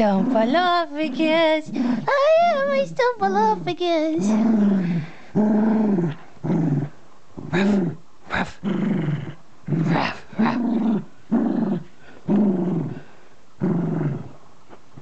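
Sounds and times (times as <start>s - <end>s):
dog play growling: 0.0s - 2.9s, 4.1s - 15.0s.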